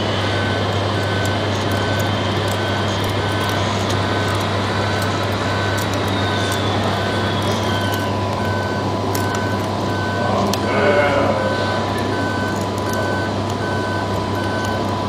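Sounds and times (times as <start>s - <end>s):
reversing beeper: 0.0s - 15.0s
steady electric hum: 0.0s - 15.0s.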